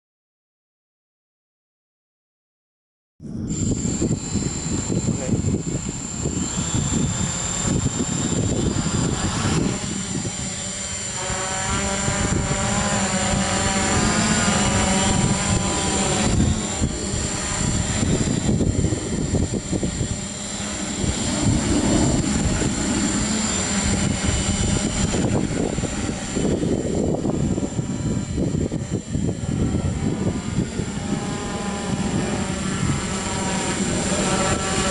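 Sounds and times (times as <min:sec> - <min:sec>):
drone propellers buzzing: 0:03.2 - 0:34.9.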